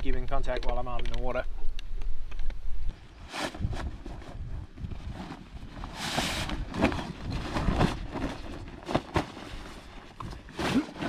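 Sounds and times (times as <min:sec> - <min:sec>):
wind rumbling on microphone: 0:00.0 - 0:10.6.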